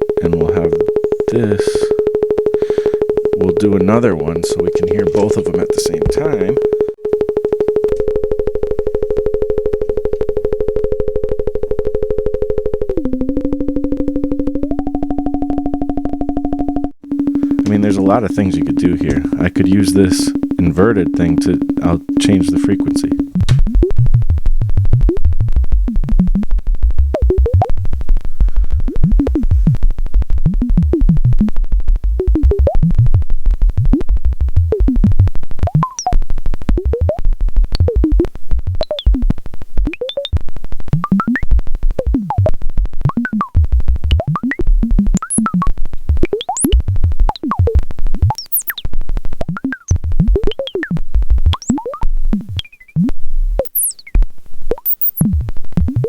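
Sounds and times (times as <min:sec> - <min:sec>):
synthesizer plucky thumps and tones: 0:00.0 - 0:08.4, 0:12.8 - 0:56.0.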